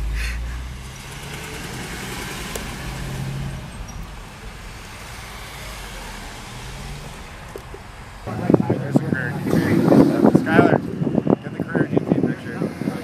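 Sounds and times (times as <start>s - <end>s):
low rumble: 0.0s - 12.4s
car engine running: 0.0s - 13.0s
road and traffic noise: 0.0s - 13.0s.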